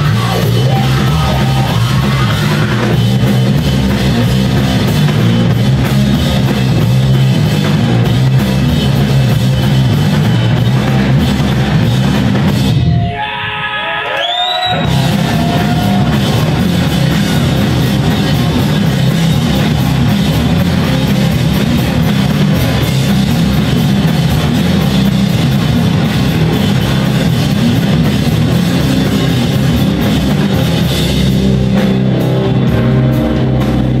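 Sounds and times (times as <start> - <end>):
live rock band playing loud: 0.0 - 13.2, 14.6 - 34.0.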